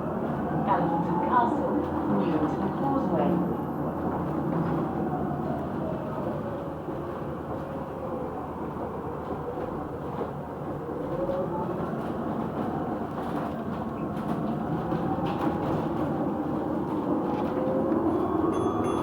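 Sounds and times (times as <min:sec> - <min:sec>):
bus road and running noise: 0:00.0 - 0:19.0.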